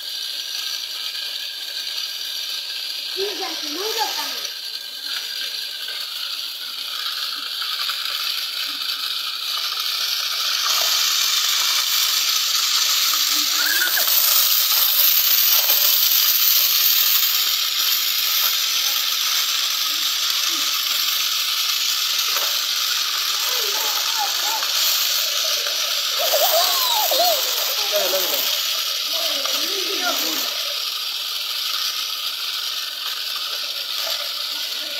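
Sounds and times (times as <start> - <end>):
toy motor hissing whir: 0.0 - 34.9.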